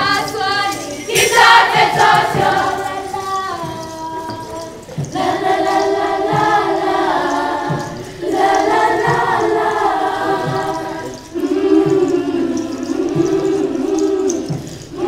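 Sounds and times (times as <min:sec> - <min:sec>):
group singing: 0:00.0 - 0:15.0.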